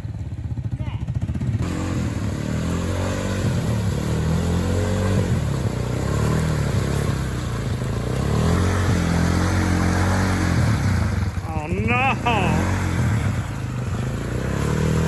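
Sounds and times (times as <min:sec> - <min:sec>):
vehicle engine revving: 0:01.2 - 0:15.0.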